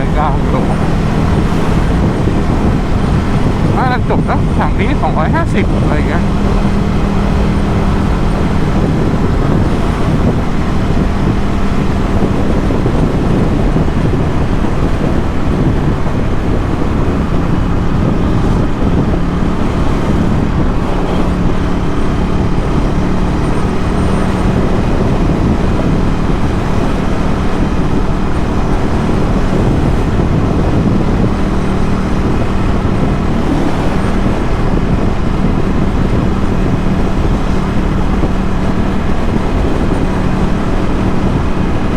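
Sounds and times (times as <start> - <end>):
motorcycle engine cruising: 0.0 - 41.9
road and wind noise: 0.0 - 41.9.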